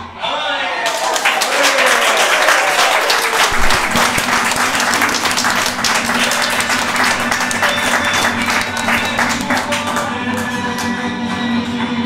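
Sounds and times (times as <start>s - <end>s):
audience applauding: 0.8s - 11.5s.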